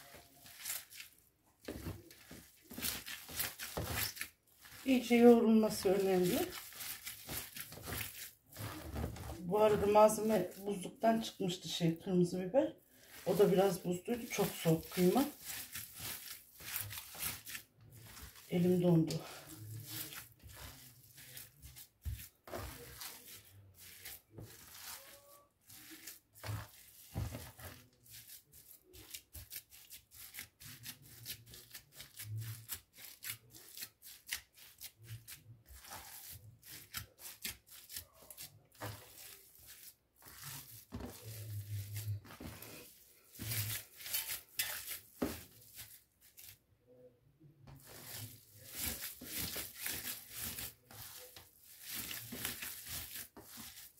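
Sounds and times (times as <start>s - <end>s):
hands kneading minced meat: 0.0s - 53.9s.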